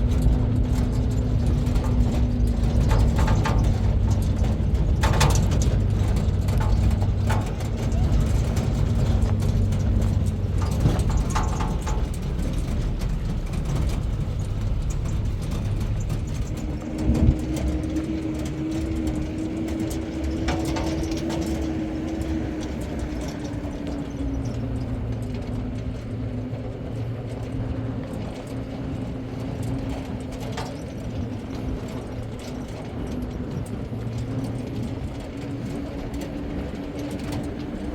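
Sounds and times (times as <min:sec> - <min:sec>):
vehicle engine humming: 0:00.0 - 0:37.9.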